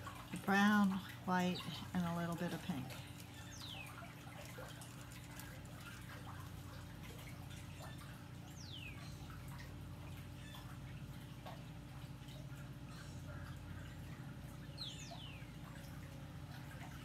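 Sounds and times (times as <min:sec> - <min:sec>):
trickle of water: 0:00.0 - 0:17.0.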